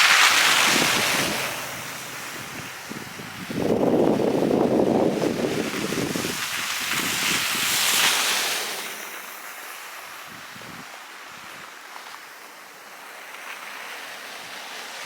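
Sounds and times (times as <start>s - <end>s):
storm wind with blowing snow: 0.0s - 15.0s.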